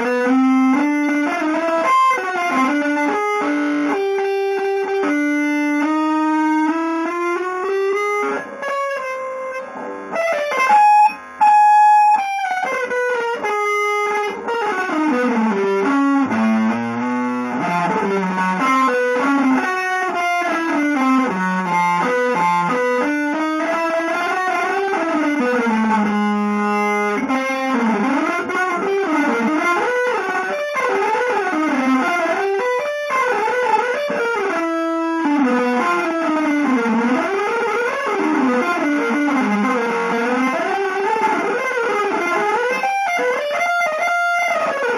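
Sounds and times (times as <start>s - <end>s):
electric guitar playing: 0.0s - 44.9s.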